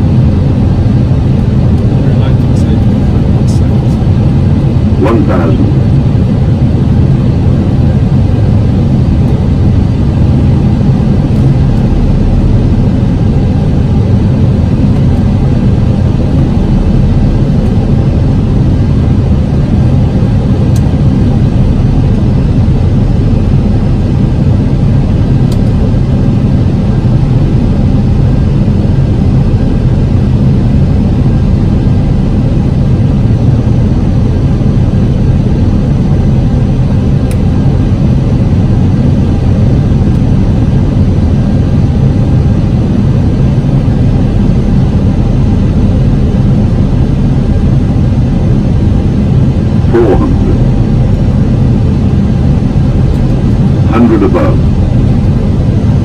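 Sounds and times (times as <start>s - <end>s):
airflow and engine hum: 0.0s - 56.0s.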